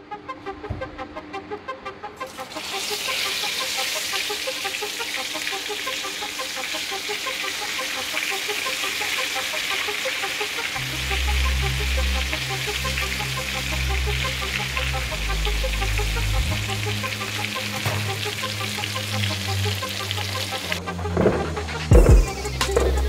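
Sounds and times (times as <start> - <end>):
light background music: 0.0 - 23.0
fish sizzling in oil: 2.3 - 20.8.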